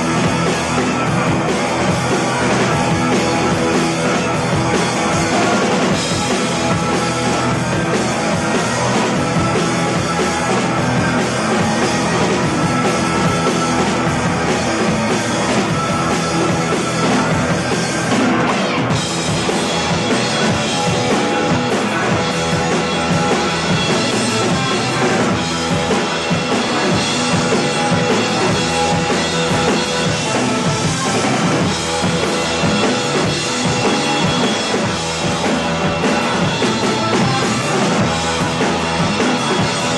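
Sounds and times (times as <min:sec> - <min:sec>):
drum kit and bass drum: 0:00.0 - 0:39.9
rock music: 0:00.0 - 0:39.9.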